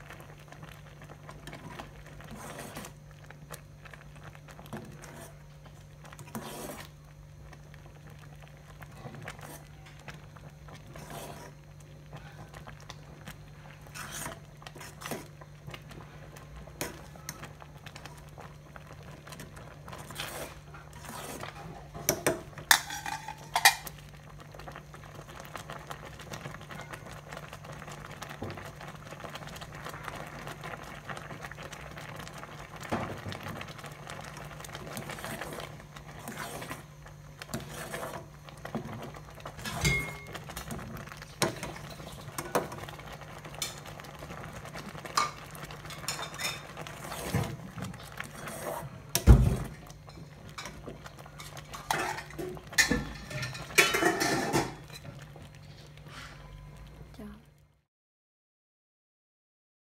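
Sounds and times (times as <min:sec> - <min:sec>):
porridge bubbling: 0:00.0 - 0:57.7.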